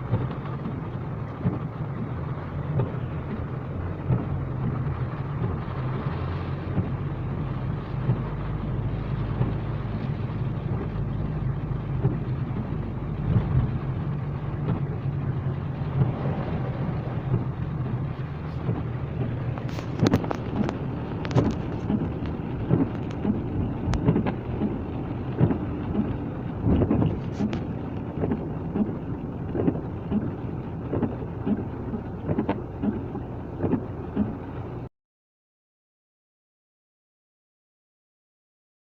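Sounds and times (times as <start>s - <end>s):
rain falling: 0.0s - 34.9s
vehicle engine hum: 0.0s - 34.9s.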